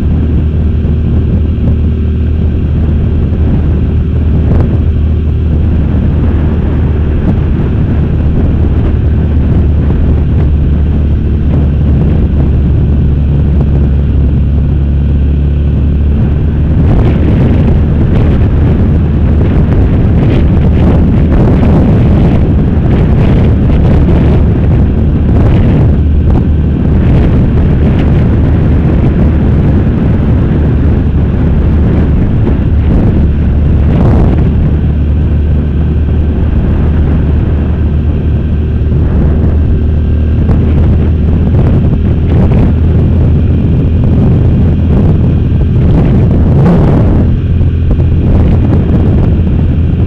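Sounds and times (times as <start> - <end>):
faint motorcycle engine: 0.0 - 50.0
wind rushing over microphone: 0.0 - 50.0.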